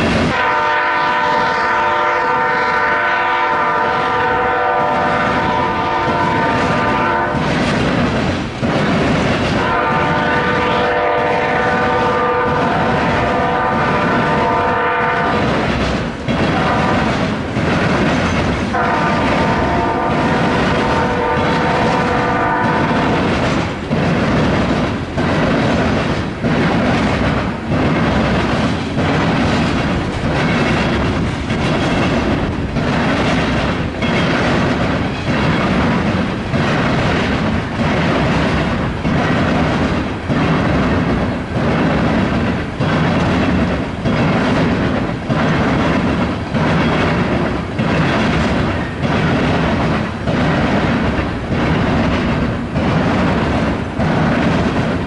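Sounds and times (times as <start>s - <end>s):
steady train rumble: 0.0s - 55.0s
train wheels clattering over track: 0.0s - 55.0s.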